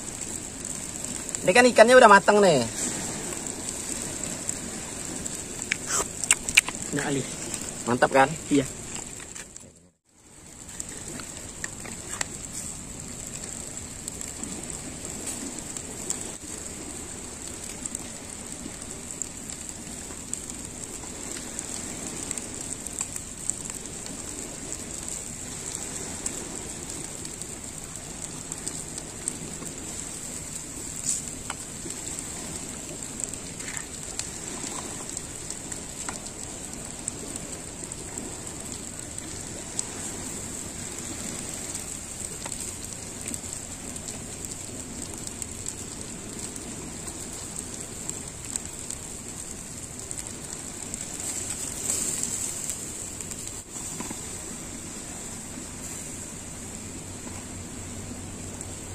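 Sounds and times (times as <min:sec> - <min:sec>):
fire crackling and popping: 0:00.0 - 0:58.9
fish sizzling on grill: 0:00.0 - 0:58.9.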